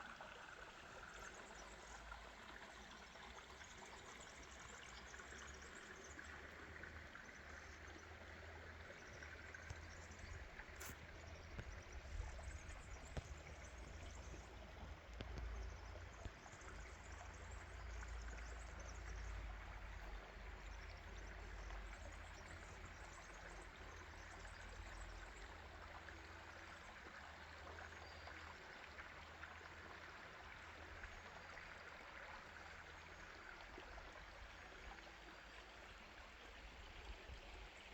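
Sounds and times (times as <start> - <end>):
small stream flowing: 0.0 - 37.9.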